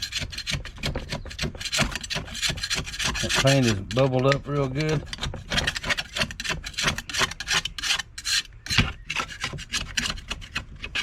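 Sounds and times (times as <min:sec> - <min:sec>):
scraping paint off metal: 0:00.0 - 0:11.0.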